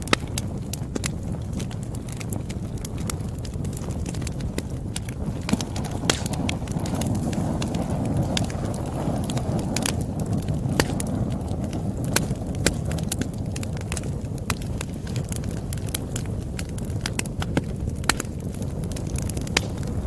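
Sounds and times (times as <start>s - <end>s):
campfire rumble: 0.0s - 20.0s
fire pops and snaps: 0.0s - 20.0s.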